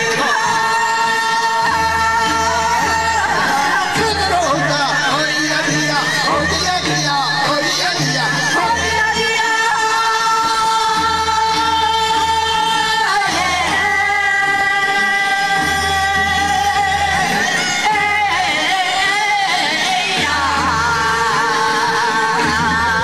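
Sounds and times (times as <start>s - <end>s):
group of singers singing: 0.0s - 23.0s.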